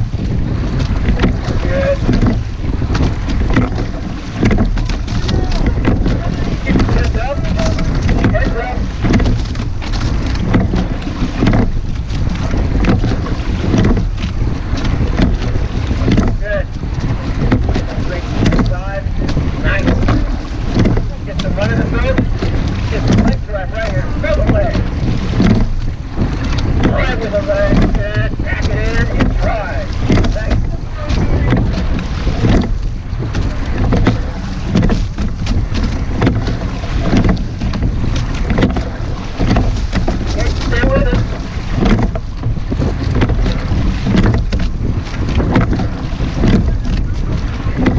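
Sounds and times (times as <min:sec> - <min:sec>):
oars knocking: 0:00.0 - 0:47.9
water rushing along hull: 0:00.0 - 0:47.9
wind buffeting microphone: 0:00.0 - 0:47.9.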